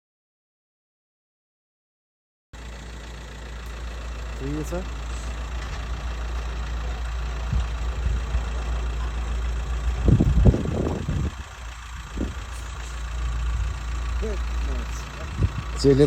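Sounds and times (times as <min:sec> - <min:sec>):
loud rumbling: 0:02.6 - 0:16.0
low engine-like hum: 0:02.6 - 0:16.0.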